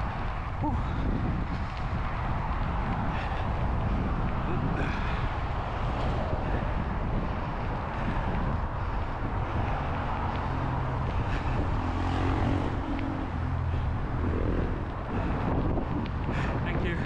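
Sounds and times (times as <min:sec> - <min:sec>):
wind and tyre rumble: 0:00.0 - 0:17.0.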